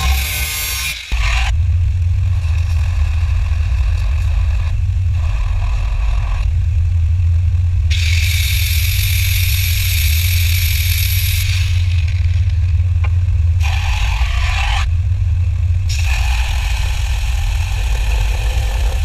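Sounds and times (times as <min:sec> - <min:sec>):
machine rumbling: 0:00.0 - 0:19.0.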